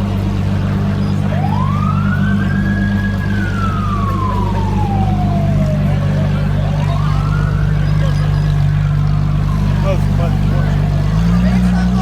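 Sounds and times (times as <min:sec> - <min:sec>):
car engine idling: 0:00.0 - 0:12.0
emergency siren wailing: 0:00.0 - 0:12.0.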